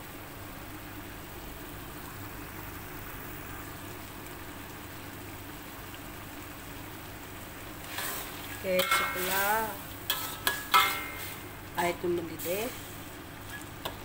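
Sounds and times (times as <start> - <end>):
curry bubbling in a wok: 0.0 - 14.0.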